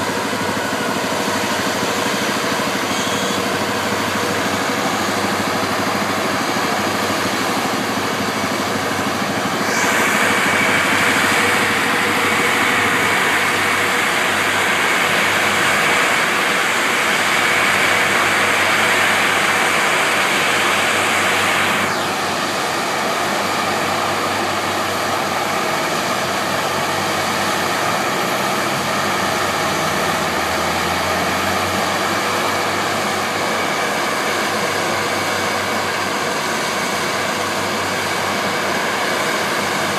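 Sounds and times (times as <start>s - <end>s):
diesel engines running: 0.0s - 39.9s
hiss with high whine: 0.0s - 39.9s.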